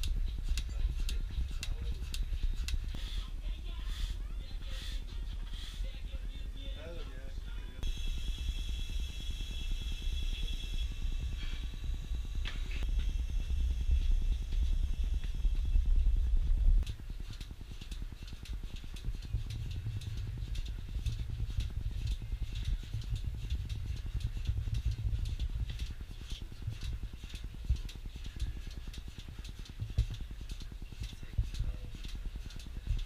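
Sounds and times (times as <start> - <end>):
milking machine drone: 0.0 - 33.0.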